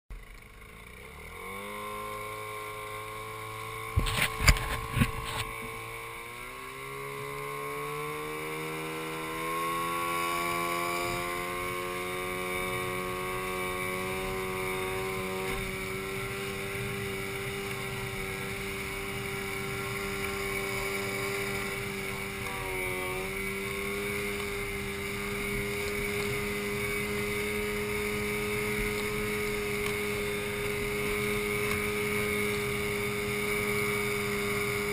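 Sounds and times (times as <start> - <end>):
outboard motor running: 0.1 - 34.9.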